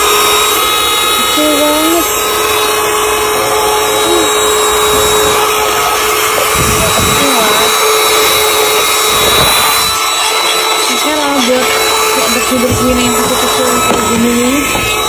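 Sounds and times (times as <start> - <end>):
handheld vacuum cleaner running: 0.0 - 15.0.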